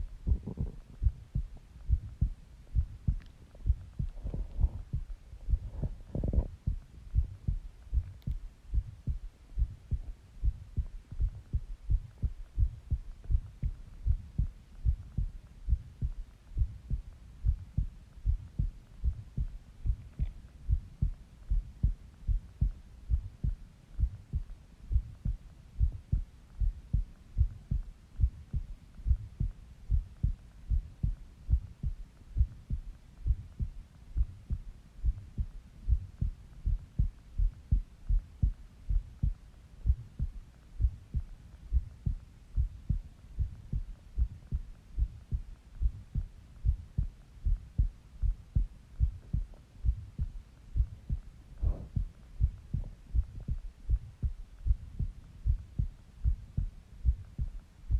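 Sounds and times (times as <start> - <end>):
heartbeat: 0.0 - 57.9.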